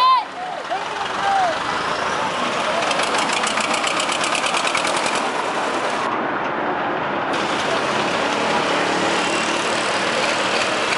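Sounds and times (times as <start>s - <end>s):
tractor and vehicle engines running: 0.0s - 6.6s, 7.3s - 10.9s.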